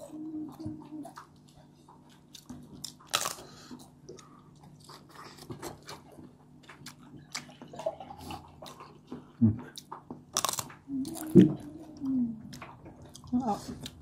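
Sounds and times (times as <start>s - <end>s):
crunchy chewing of fried food: 0.0s - 14.0s.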